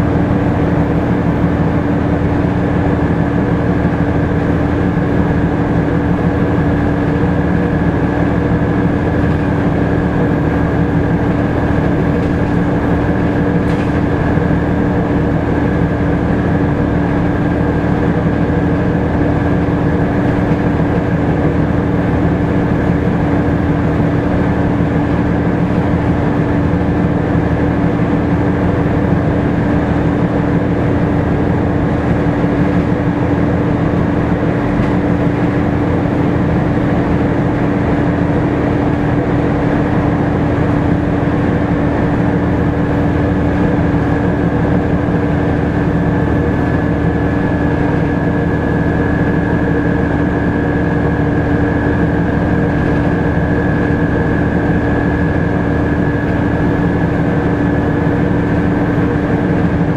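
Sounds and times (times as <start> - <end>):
engine cooling fan whine: 0.0 - 59.9
low diesel engine drone: 0.0 - 59.9.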